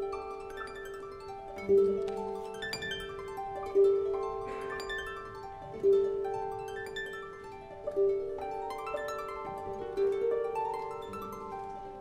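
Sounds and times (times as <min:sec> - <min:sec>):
plucked string music: 0:01.5 - 0:12.0.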